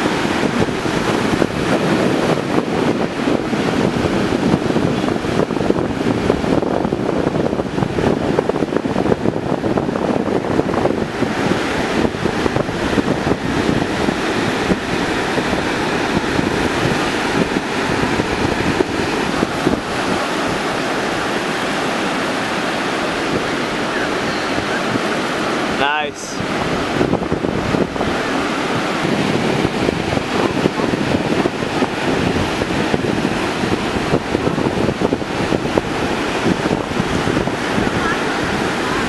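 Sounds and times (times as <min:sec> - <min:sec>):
ocean surf breaking: 0:00.0 - 0:39.0
wind buffeting microphone: 0:00.0 - 0:39.0.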